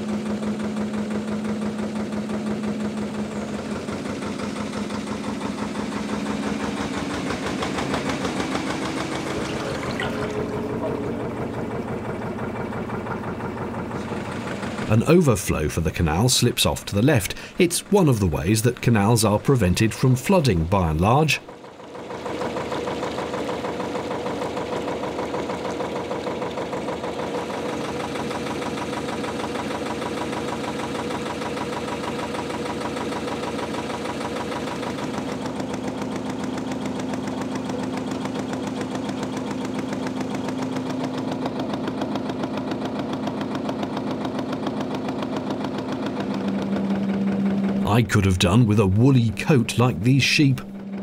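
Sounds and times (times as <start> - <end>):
diesel boat engine running: 0.0 - 51.0.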